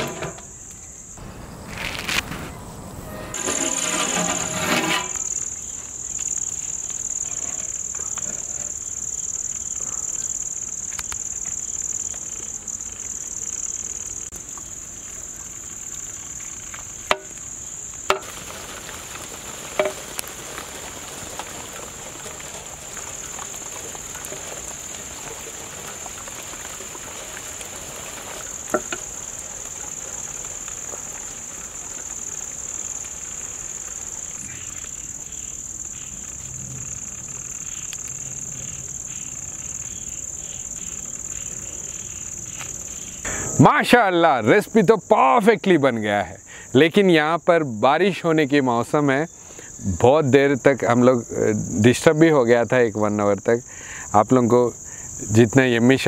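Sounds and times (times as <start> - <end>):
insect chorus chirring: 0.0 - 56.0.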